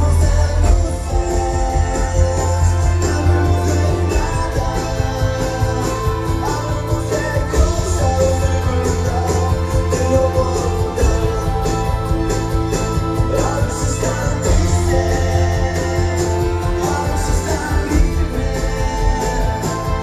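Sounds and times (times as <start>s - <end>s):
person singing: 0.0s - 20.0s
rock song with guitar: 0.0s - 20.0s.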